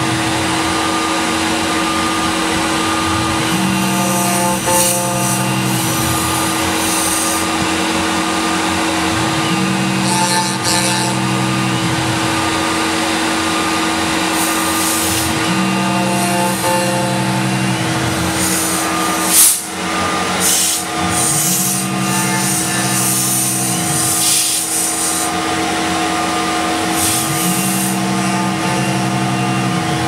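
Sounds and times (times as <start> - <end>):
axis motors whining: 0.0 - 30.0
loud burst of noise: 0.0 - 30.0
milling machine spindle tone: 0.0 - 30.0.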